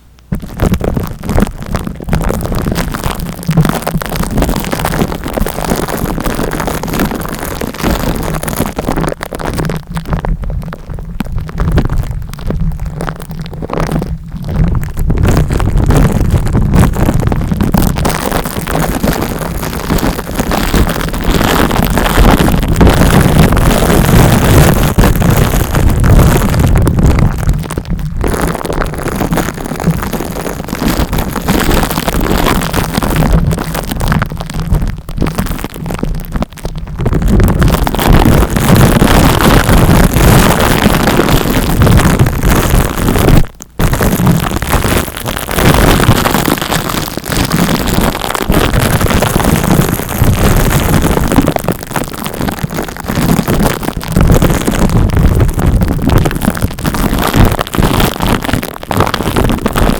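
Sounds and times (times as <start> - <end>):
scratching and rubbing on microphone: 0.0 - 59.9.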